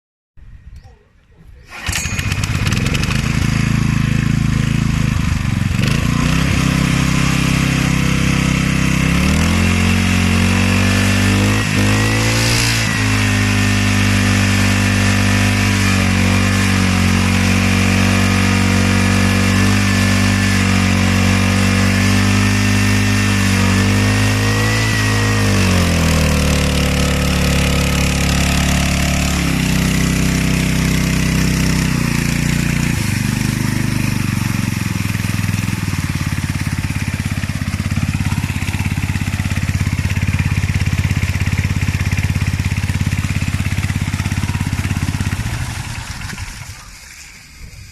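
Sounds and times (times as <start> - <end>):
water pump engine running: 1.7 - 47.5.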